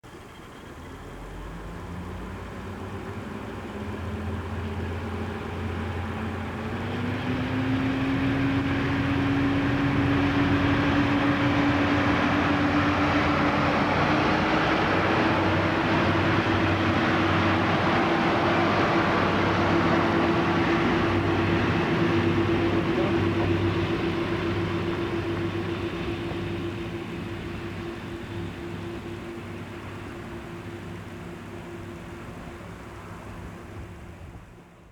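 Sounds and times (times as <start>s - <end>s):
diesel railcar engine pulling away: 0.0s - 34.9s.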